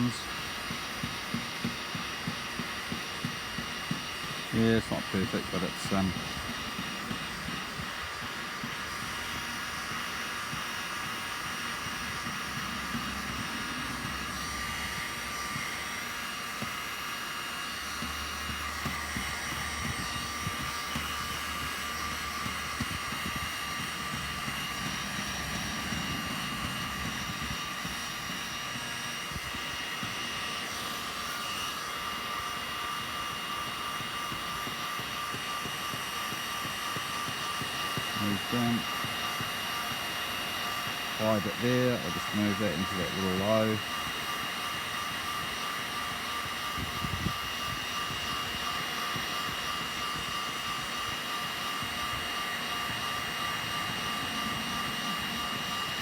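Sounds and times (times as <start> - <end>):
heat gun blowing: 0.0 - 56.0.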